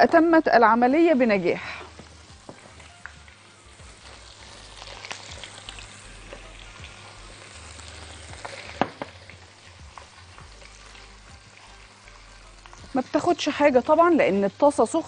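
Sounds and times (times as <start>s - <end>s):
chicken frying in a pan: 0.0s - 15.0s
oil popping: 1.6s - 14.7s.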